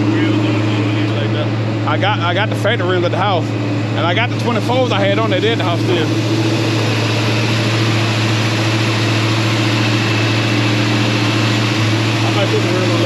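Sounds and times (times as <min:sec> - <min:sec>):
pickup truck engine droning: 0:00.0 - 0:13.0.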